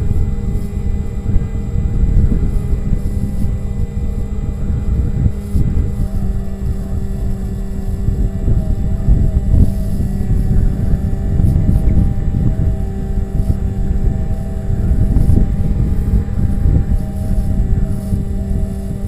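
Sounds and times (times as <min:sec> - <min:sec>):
electric motor and propeller humming: 0:00.0 - 0:19.0
rumbling wind rush: 0:00.0 - 0:19.0.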